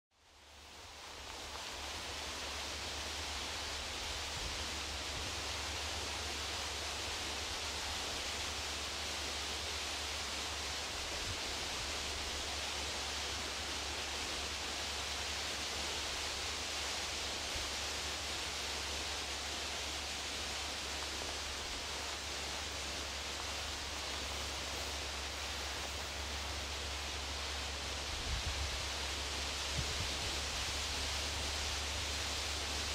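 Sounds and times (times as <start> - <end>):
steady hiss: 0.2 - 32.9.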